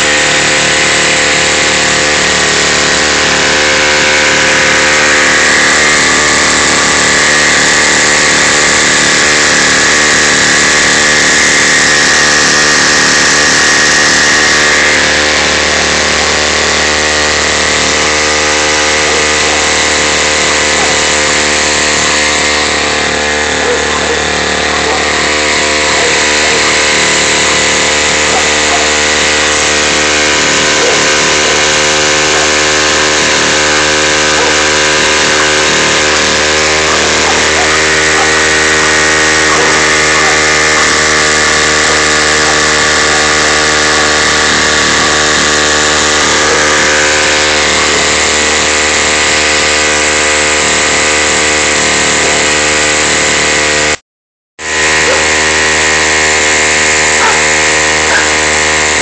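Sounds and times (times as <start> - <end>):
small outboard motor running: 0.0 - 54.0, 54.6 - 59.0.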